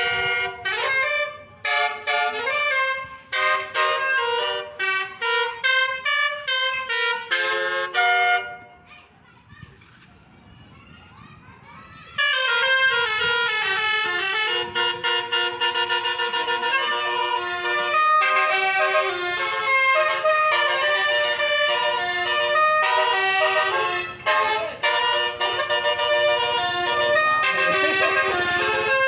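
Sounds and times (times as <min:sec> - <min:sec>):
multi-trumpet air horn tune: 0:00.0 - 0:08.7, 0:12.2 - 0:29.0.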